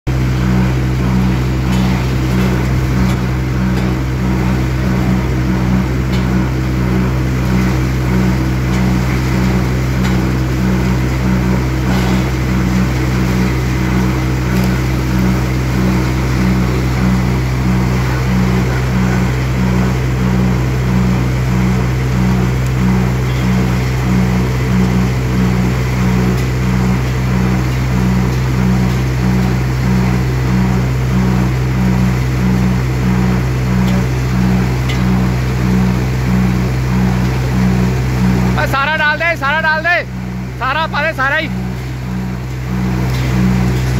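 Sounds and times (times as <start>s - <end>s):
thresher humming and throbbing: 0.1s - 43.9s.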